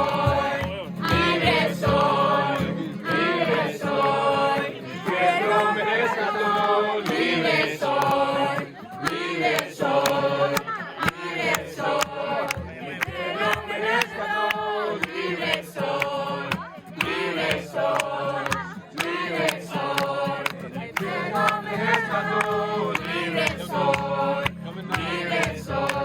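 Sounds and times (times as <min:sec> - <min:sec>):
group of young voices singing: 0:00.0 - 0:26.0.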